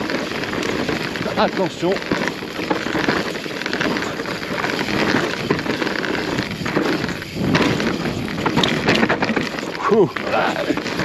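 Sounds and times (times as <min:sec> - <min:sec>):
bike tyres crunching over rock: 0:00.0 - 0:11.0
stones and bike rattling: 0:00.0 - 0:11.0.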